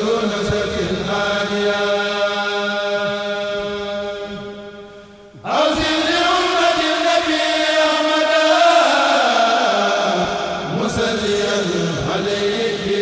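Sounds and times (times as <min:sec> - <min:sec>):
men chanting melodically: 0:00.0 - 0:13.0.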